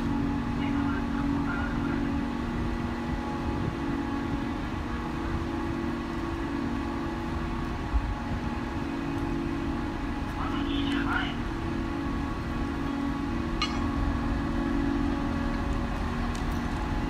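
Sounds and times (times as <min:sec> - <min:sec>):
constant tones: 0:00.0 - 0:17.0
ship machinery hum: 0:00.0 - 0:17.0.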